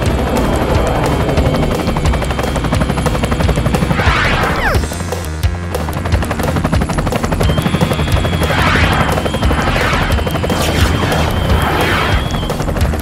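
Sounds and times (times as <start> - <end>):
cartoon helicopter rotor chopping: 0.0 - 13.0.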